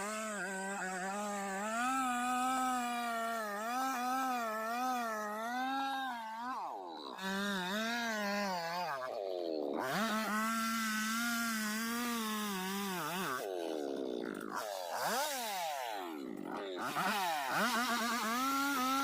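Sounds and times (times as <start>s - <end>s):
chainsaw revving: 0.0s - 19.0s.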